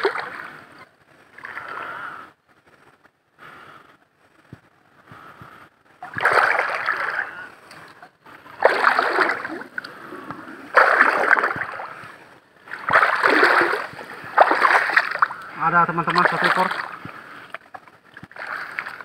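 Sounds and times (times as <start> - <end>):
water and mud splashing: 0.0 - 2.2, 6.0 - 19.0.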